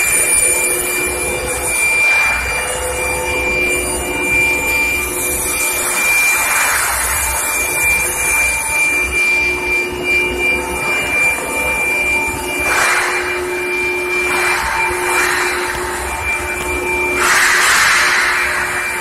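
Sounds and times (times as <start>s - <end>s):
high machine whine: 0.0s - 19.0s
industrial machine noise: 0.0s - 19.0s
low machine hums: 0.0s - 19.0s.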